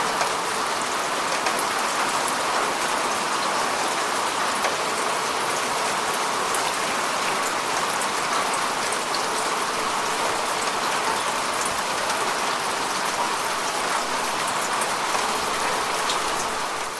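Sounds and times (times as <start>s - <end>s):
rain falling: 0.0s - 16.9s.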